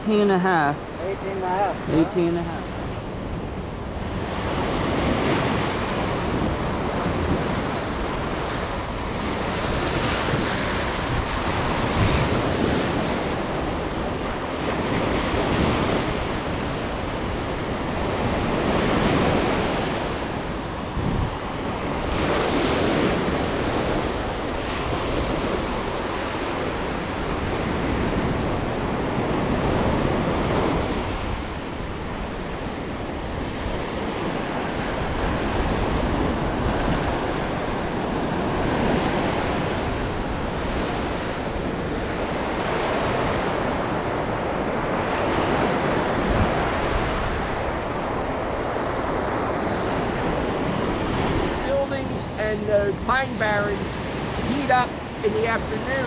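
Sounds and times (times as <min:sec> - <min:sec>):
small waves breaking on beach: 0:00.0 - 0:56.0.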